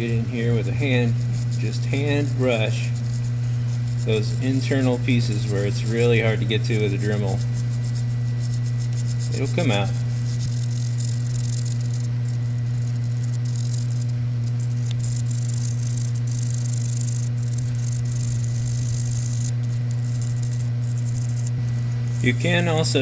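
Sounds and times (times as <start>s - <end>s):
low electrical hum: 0.0s - 23.0s
wire brush scrubbing metal: 0.0s - 23.0s.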